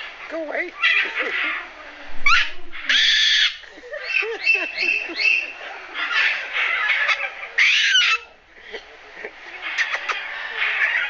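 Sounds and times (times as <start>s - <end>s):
parrot squawking: 0.0s - 8.4s, 9.6s - 11.0s.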